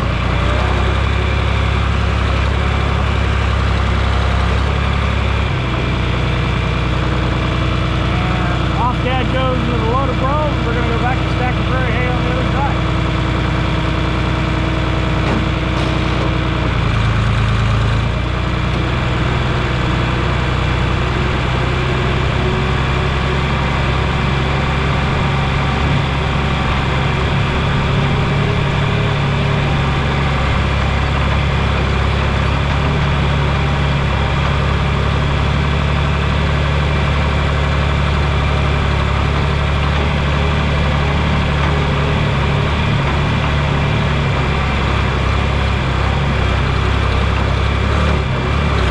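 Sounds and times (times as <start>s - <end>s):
large engine running steadily: 0.0s - 48.9s.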